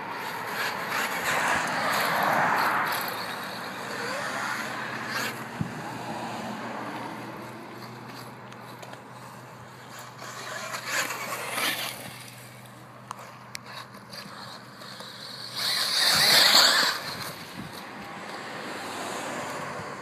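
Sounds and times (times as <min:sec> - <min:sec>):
vehicle passing by: 0:00.0 - 0:20.0.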